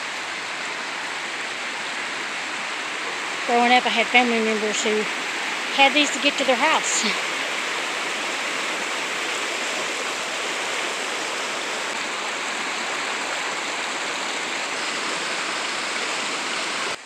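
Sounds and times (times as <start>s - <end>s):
creek rushing over rocks: 0.0s - 17.0s.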